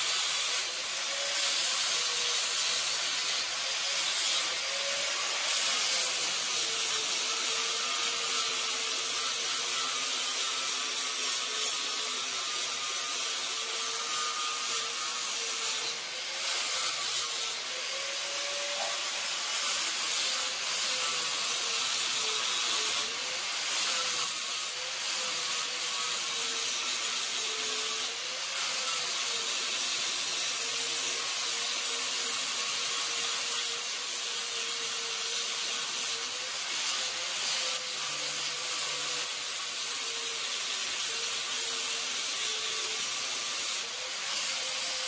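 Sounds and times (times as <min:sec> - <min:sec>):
angle grinder grinding steel: 0:00.0 - 0:45.0.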